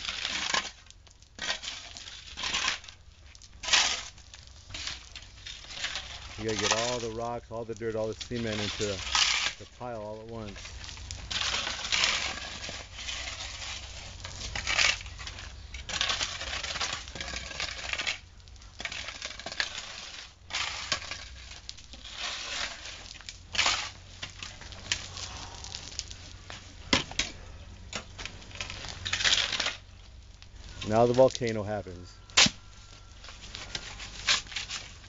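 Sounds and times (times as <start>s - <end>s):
shovels scraping sand and gravel: 0.0s - 30.0s, 30.6s - 35.0s.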